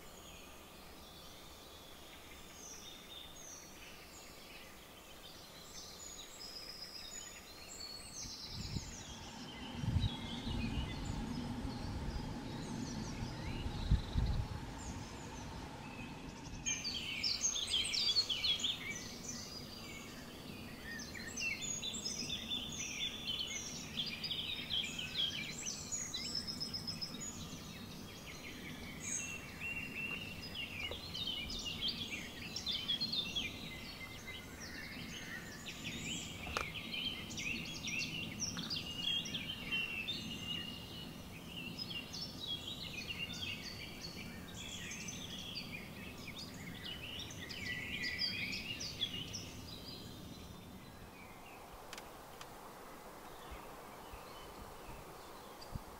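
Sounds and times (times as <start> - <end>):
songbirds chirping and trilling: 0.0 - 55.9
low steady hum: 7.2 - 55.9.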